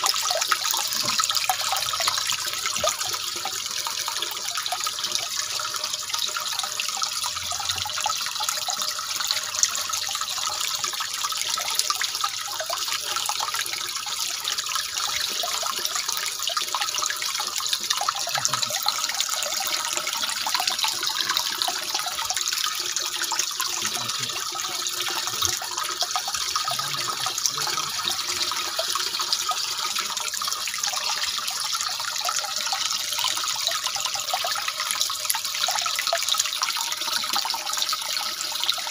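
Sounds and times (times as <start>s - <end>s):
water pouring into tank: 0.0s - 38.9s.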